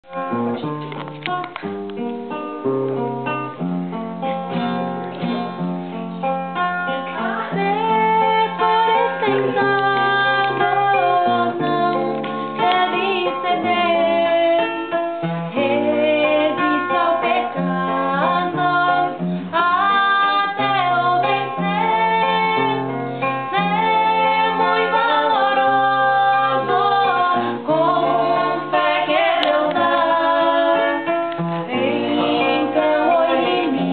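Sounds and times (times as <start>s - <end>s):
acoustic guitar: 0.0s - 33.9s
woman singing a hymn: 6.6s - 33.9s.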